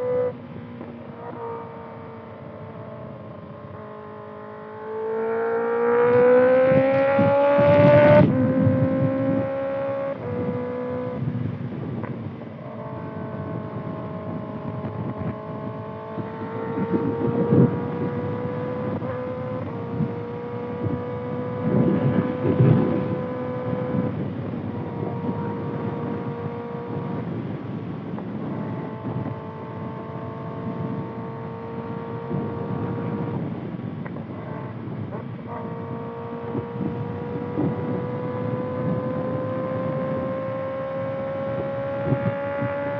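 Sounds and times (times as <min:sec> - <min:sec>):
motorcycle engine cruising: 0:00.0 - 0:42.9
wind buffeting microphone: 0:00.0 - 0:42.9.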